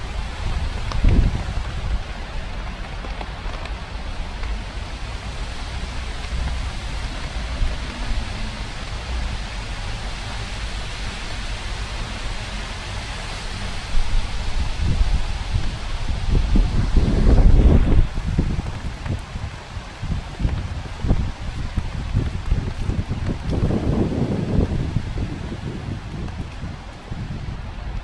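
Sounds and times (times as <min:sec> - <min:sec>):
steady rain falling: 0:00.0 - 0:28.0
wind rumble on microphone: 0:00.0 - 0:28.0.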